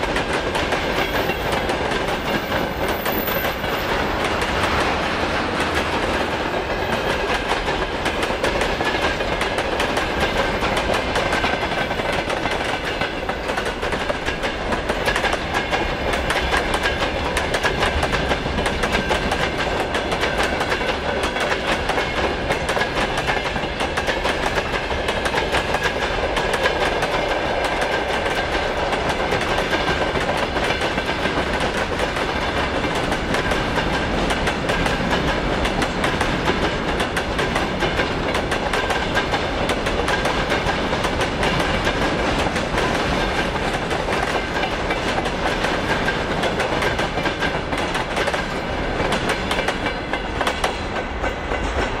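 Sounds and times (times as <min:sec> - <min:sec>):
train wheels clattering over rail joints: 0:00.0 - 0:52.0.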